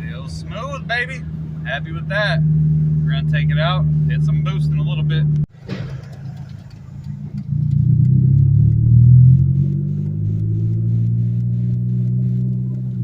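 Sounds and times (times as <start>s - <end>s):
car engine and exhaust running: 0.0s - 13.0s.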